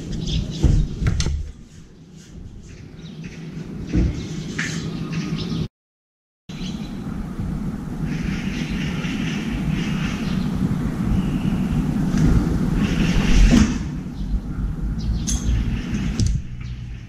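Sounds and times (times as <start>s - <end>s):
city traffic rumble: 0.0s - 5.7s, 6.5s - 17.0s.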